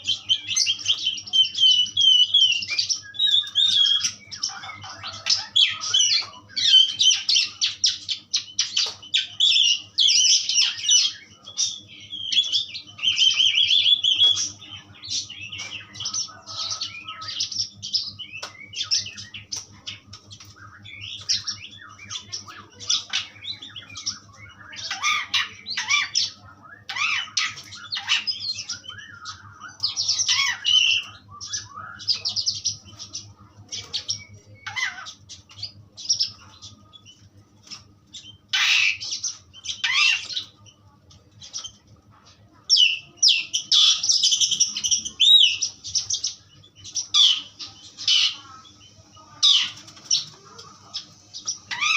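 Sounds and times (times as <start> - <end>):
faint low hum: 0.0 - 51.9
starling singing and chattering: 0.0 - 51.9.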